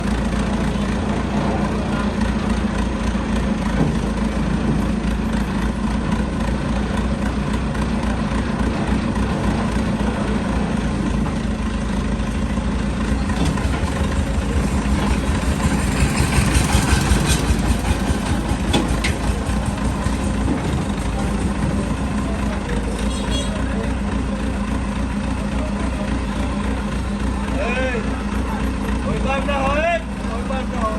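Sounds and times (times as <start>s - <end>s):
heavy vehicle engine idling: 0.0s - 30.9s.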